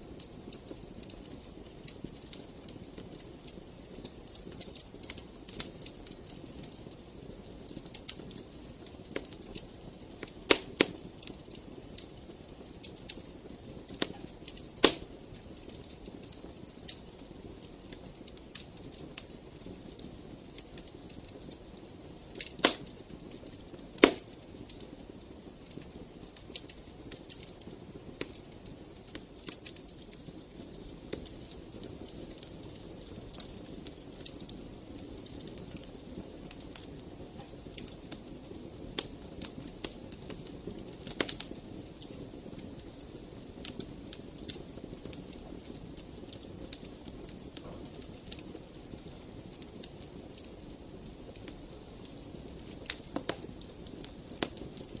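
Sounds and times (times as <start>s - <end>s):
wood fire crackling: 0.0s - 55.0s
loud fire pops: 0.1s - 55.0s.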